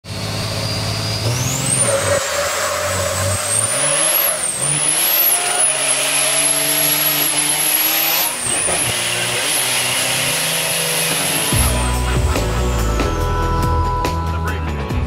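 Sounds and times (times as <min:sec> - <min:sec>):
diesel truck engine accelerating: 0:00.0 - 0:15.0.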